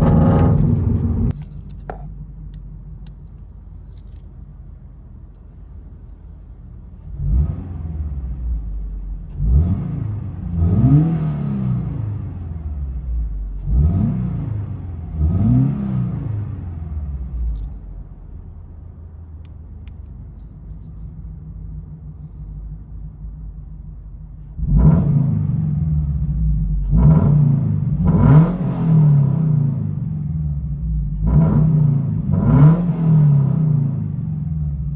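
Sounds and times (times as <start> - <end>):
car engine revving and idling: 0.0 - 34.9.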